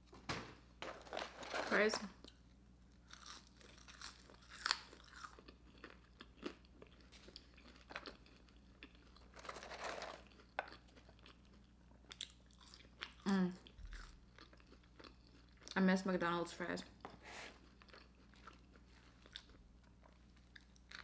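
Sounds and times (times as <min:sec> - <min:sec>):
chewing crunchy fries: 0:02.2 - 0:15.9, 0:17.6 - 0:21.0.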